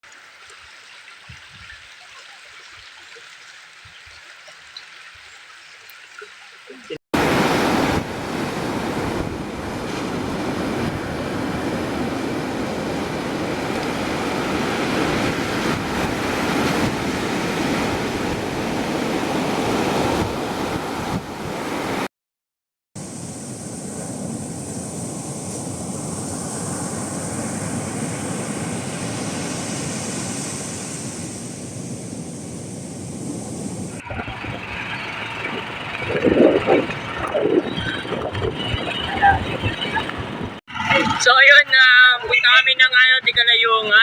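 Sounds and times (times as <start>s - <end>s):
surf breaking on beach: 7.2s - 22.1s, 23.0s - 43.5s.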